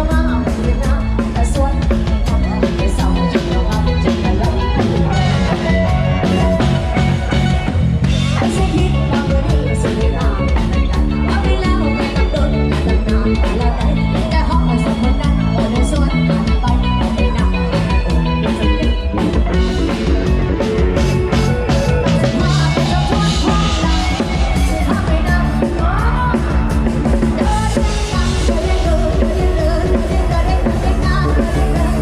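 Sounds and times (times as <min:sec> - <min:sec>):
band music with fast drum beat: 0:00.0 - 0:32.0.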